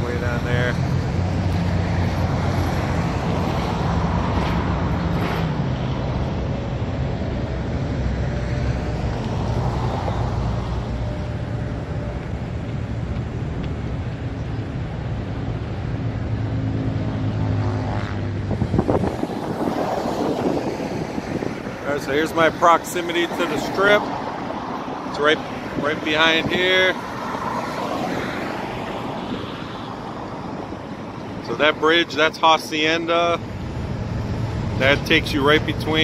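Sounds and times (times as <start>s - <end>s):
traffic noise: 0.0s - 36.0s
vehicle engine hum: 0.0s - 36.0s.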